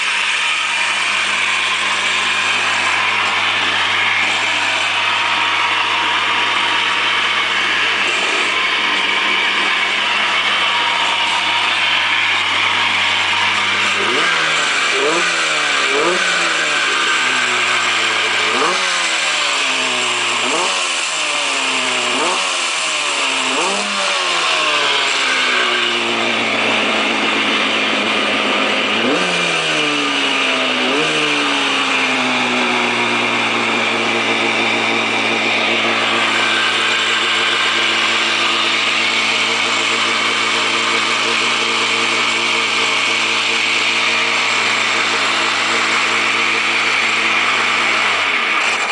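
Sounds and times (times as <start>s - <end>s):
jet ski engine revving and idling: 0.0s - 48.9s.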